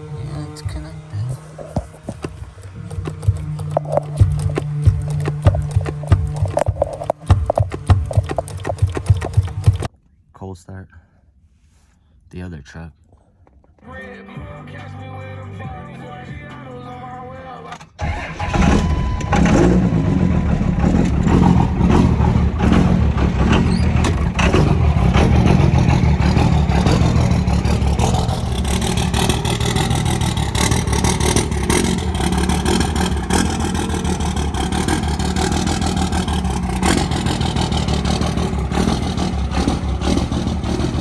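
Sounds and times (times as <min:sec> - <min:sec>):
vehicle engine rumbling: 0:00.0 - 0:10.9, 0:16.8 - 0:41.0.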